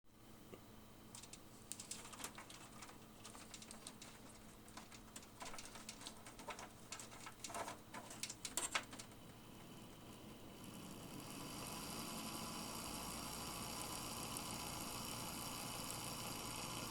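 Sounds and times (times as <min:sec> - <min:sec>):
faint steady fan hum: 0:00.1 - 0:16.9.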